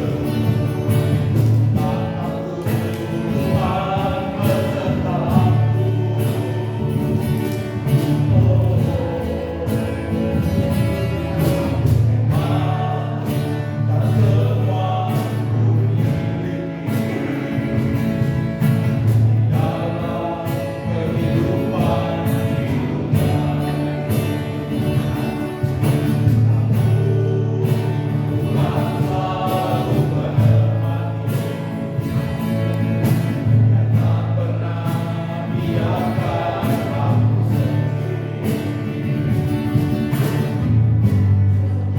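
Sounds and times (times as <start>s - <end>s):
choir singing gospel: 0.0s - 41.9s.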